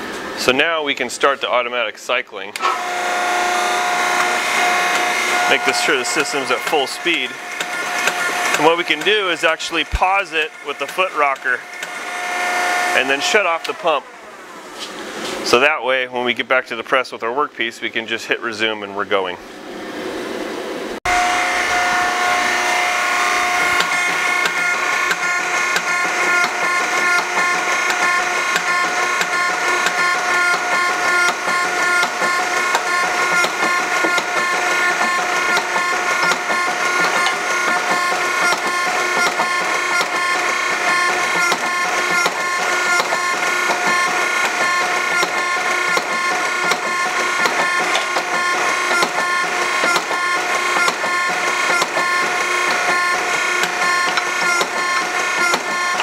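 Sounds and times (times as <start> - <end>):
hydraulic pump whining: 0.0 - 16.0, 19.4 - 56.0.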